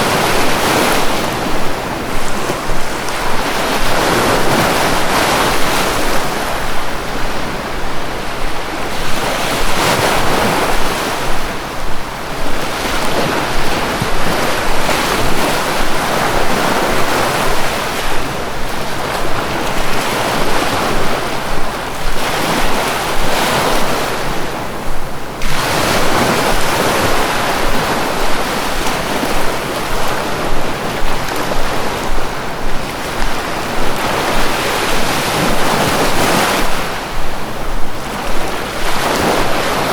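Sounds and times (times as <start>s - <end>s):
sea waves on shore: 0.0s - 39.9s.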